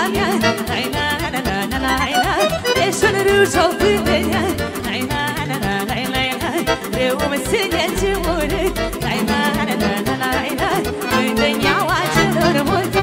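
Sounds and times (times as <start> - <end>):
fast folk dance music: 0.0 - 13.0
person singing: 0.0 - 13.0.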